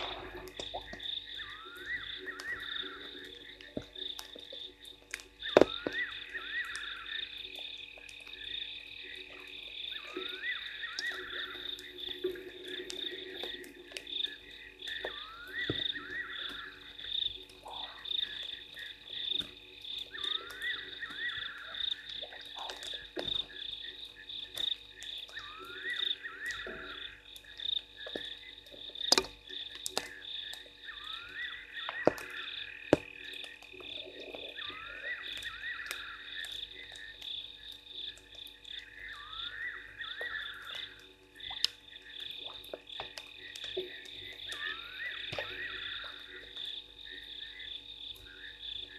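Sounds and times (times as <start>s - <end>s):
low frog call: 0.0s - 29.2s, 29.8s - 48.9s
frogs trilling: 0.0s - 48.9s.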